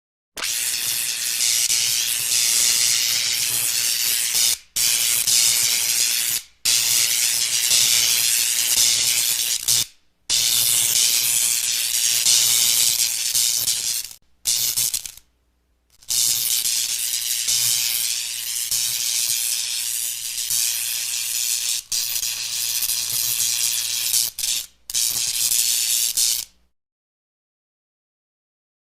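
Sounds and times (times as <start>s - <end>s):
electric crackling hiss: 0.5s - 15.2s, 16.0s - 26.5s.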